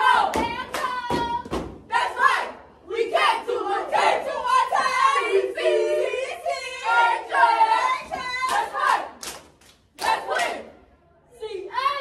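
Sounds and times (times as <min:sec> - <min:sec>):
cheerleaders chanting in unison: 0:00.0 - 0:12.0.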